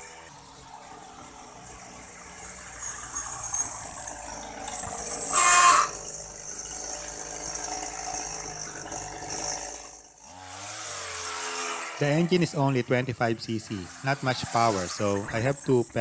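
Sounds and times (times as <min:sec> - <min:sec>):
small two-stroke engine whining: 0:00.0 - 0:16.0.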